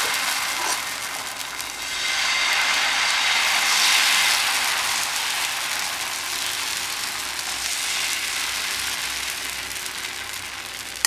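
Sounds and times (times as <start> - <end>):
batter sizzling on griddle: 0.0 - 11.0.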